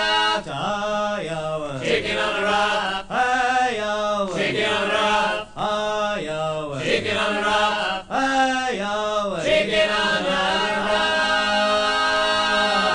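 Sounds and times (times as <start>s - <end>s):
unaccompanied voices singing a shanty: 0.0s - 12.9s.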